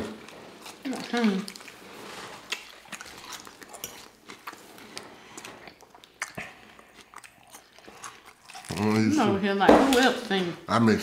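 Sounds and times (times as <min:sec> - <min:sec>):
chewing and mouth sounds: 0:00.0 - 0:09.4.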